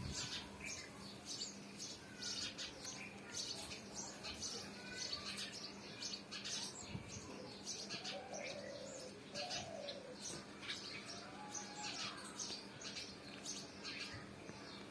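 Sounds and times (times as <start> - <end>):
sparrows chirping: 0.0 - 14.9.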